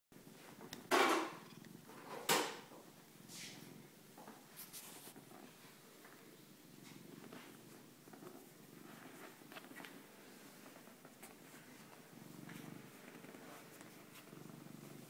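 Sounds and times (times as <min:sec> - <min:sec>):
cat purring: 0:00.2 - 0:15.0.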